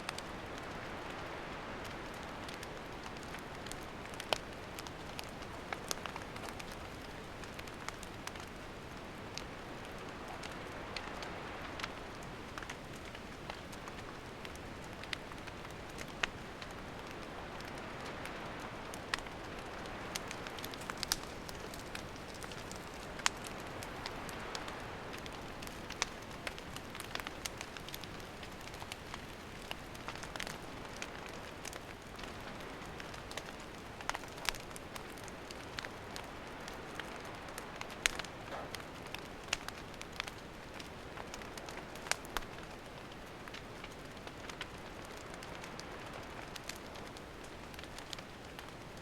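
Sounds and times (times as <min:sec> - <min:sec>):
firewood crackling and popping: 0:00.0 - 0:49.0
campfire hissing: 0:00.1 - 0:49.0.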